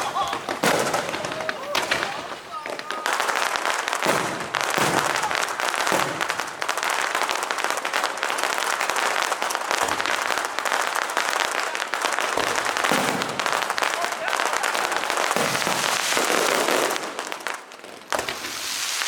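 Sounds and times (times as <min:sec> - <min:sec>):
deep firework bangs: 0:00.0 - 0:18.8
fireworks crackling pops: 0:00.0 - 0:19.0.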